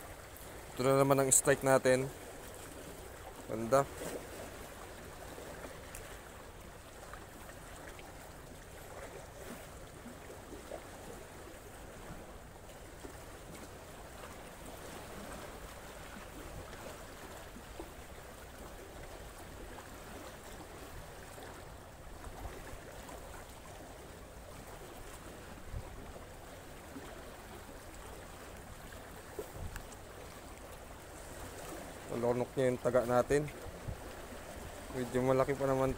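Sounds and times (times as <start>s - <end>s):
sea water washing: 0.0s - 35.9s.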